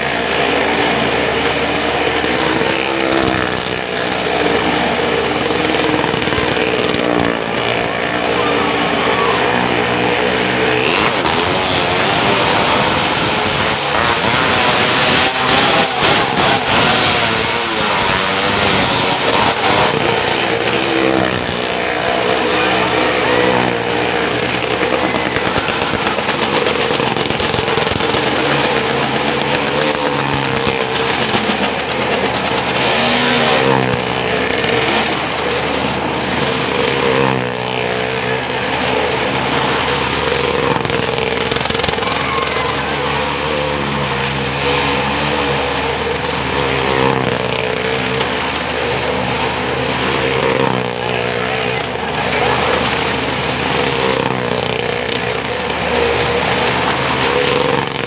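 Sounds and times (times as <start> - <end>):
car engine running hard: 0.0 - 58.0
motorcycle engine running hard: 0.0 - 58.0.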